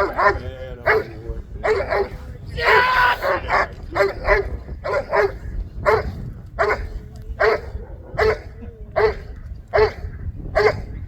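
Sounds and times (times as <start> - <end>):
dog barking: 0.0 - 2.2, 3.3 - 11.0.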